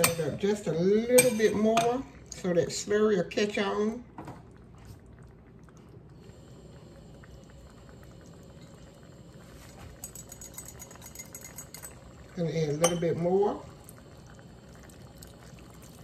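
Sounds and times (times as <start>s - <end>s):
broth bubbling in a pan: 0.0s - 16.0s.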